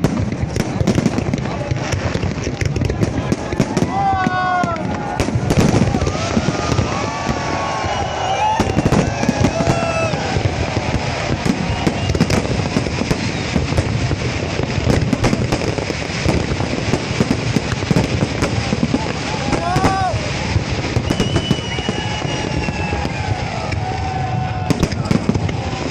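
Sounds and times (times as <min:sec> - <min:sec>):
fireworks popping and crackling: 0:00.0 - 0:25.9.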